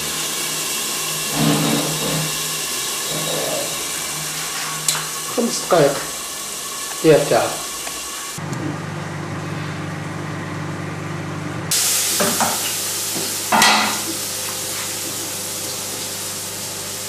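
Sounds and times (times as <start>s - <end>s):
food sizzling in a frying pan: 0.0s - 8.4s, 11.7s - 17.0s.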